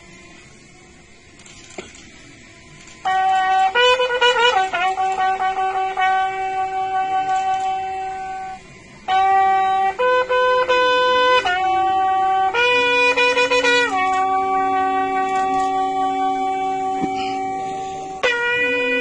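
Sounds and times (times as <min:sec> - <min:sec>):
bugle call: 0:03.0 - 0:19.0.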